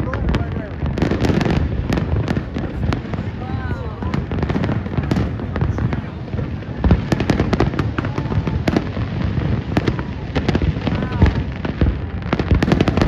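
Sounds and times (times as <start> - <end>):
distant fireworks rumble: 0.0 - 13.0
fireworks bangs and crackles: 0.0 - 13.0.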